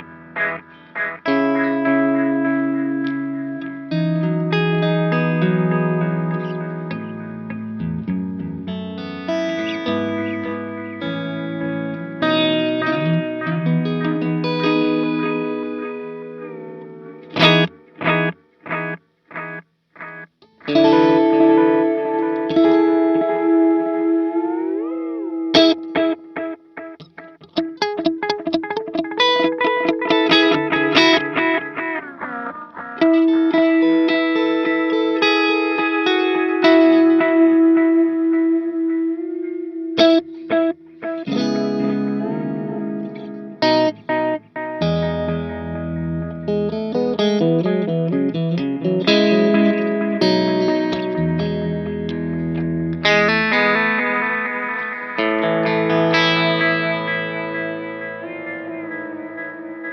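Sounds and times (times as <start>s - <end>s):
electric guitar with delay: 0.0s - 59.9s.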